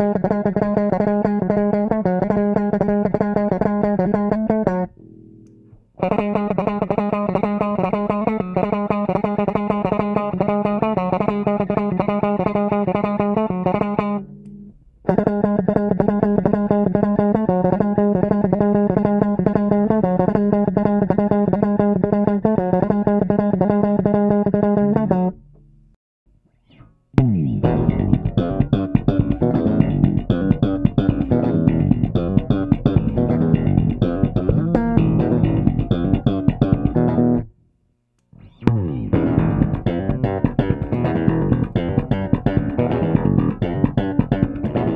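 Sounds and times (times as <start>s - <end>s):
electric bass playing: 0.0s - 25.7s, 26.7s - 37.5s, 38.4s - 44.9s.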